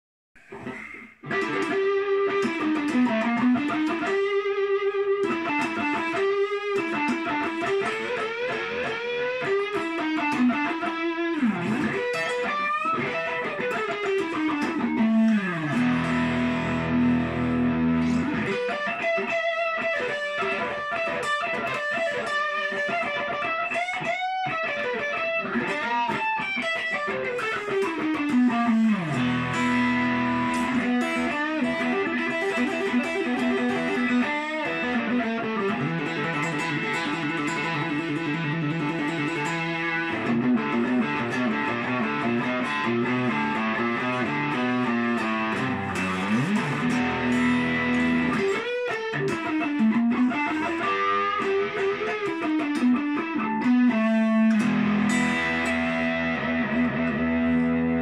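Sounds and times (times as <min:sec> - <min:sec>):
electric guitar sliding notes: 0:00.4 - 0:58.0.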